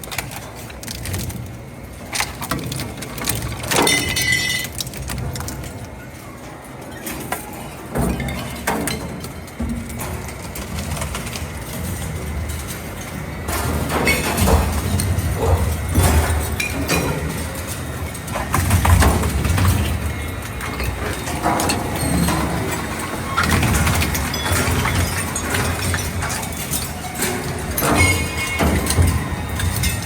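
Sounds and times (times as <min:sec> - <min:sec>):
metal crunching and cracking: 0:00.0 - 0:30.0.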